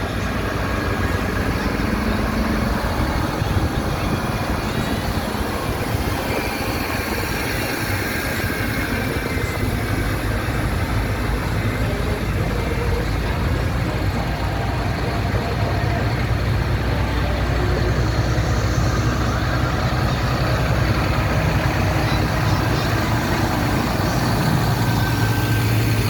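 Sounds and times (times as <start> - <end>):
tractor engines running: 0.0 - 26.0.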